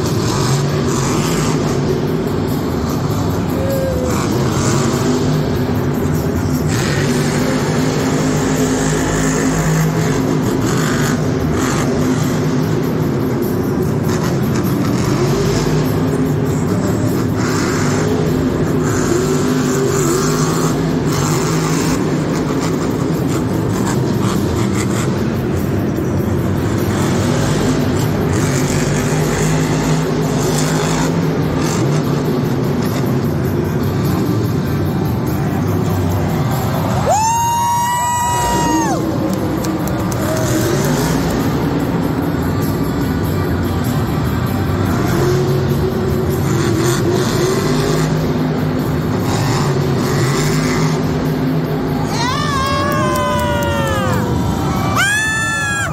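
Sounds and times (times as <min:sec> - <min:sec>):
arena crowd din: 0:00.0 - 0:55.9
monster truck engine revving: 0:00.0 - 0:55.9.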